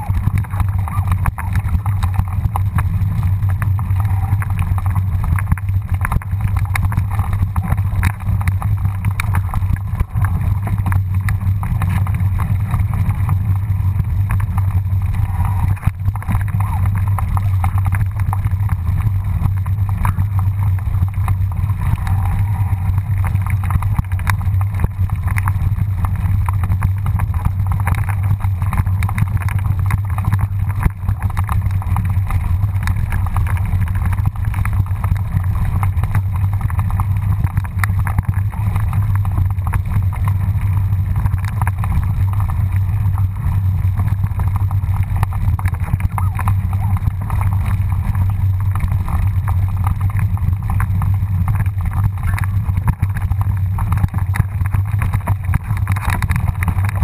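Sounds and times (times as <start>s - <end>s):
bike rattles and clicks: 0.0s - 57.0s
wind and vibration rumble: 0.0s - 57.0s.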